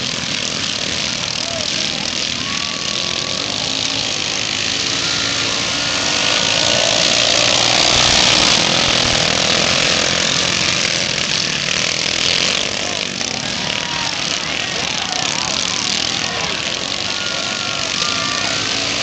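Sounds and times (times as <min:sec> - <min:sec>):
lawnmower engines passing: 0:00.0 - 0:19.0.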